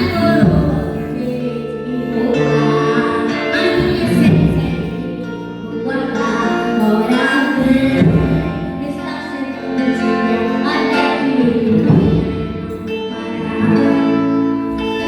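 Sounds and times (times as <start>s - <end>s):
people singing a hymn: 0.0s - 14.9s
sustained instrumental accompaniment: 0.0s - 15.0s.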